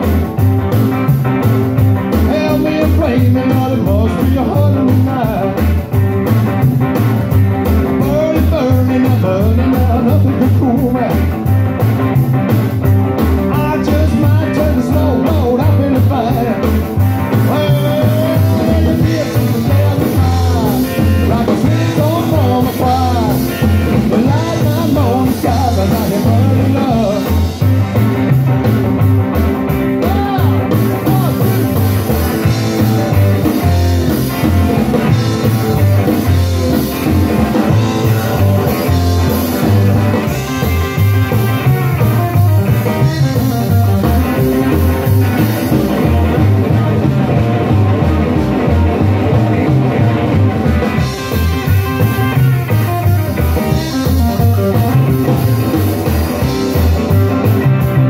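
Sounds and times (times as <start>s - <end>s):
drum kit beat: 0.0s - 58.0s
electric guitar lead: 0.0s - 58.0s
upright bass: 0.0s - 58.0s.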